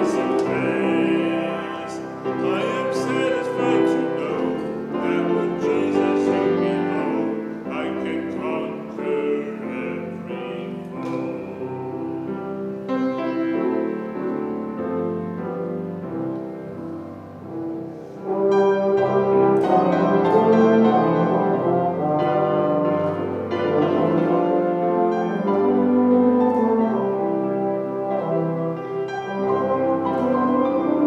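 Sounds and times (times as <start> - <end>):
keyboard music with held chords: 0.0 - 31.0.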